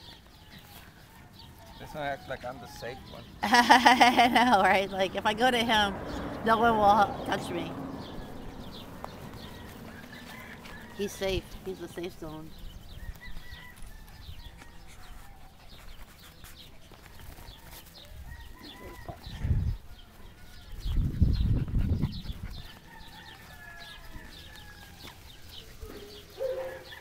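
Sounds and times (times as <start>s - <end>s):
birds chirping and clucking: 0.0s - 27.0s.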